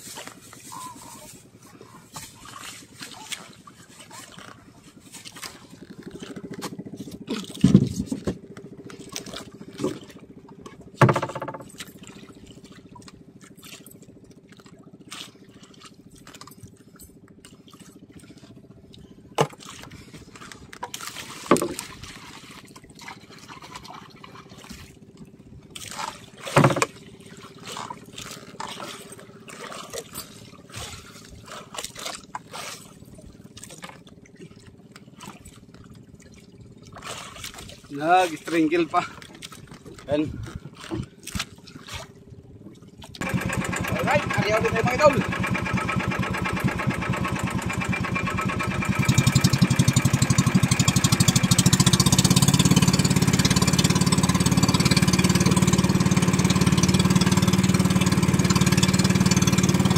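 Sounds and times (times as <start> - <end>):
water sloshing against boat hull: 0.0 - 59.9.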